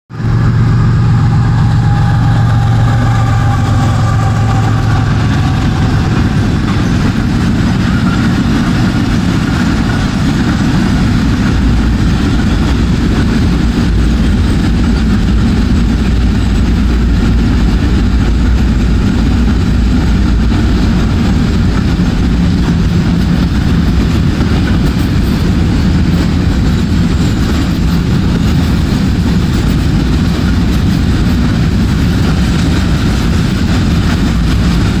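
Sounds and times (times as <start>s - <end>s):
diesel locomotive engine humming: 0.1s - 35.0s
train wagons rumbling over rails: 0.1s - 35.0s.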